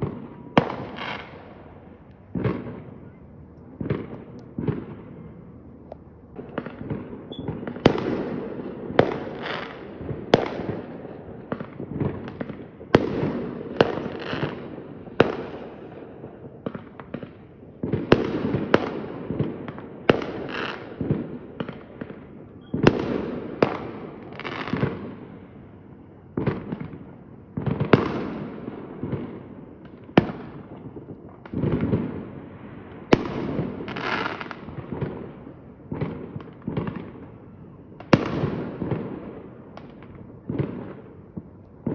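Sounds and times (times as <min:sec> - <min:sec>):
fireworks bangs with crackling: 0:00.0 - 0:41.9.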